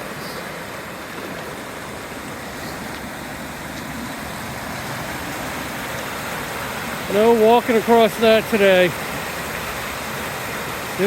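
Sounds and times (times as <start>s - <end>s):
flooded river rushing: 0.0s - 11.0s.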